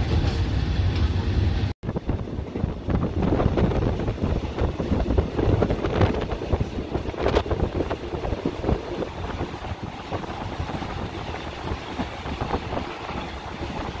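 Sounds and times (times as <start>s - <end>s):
train carriage rumbling and rattling: 0.0s - 14.0s
wind buffeting microphone: 1.8s - 14.0s.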